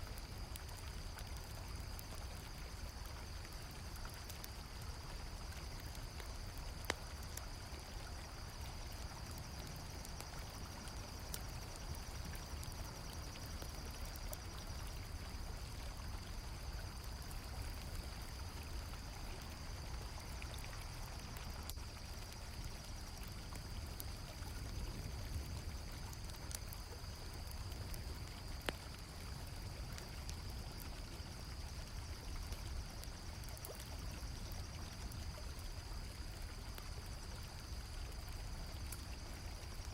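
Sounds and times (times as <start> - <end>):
campfire crackling: 0.0 - 39.9
crickets trilling: 0.0 - 39.9.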